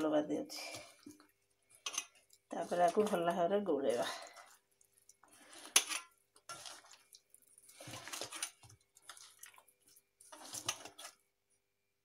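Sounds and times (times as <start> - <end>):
wet squelching of hand mixing: 0.0 - 11.6.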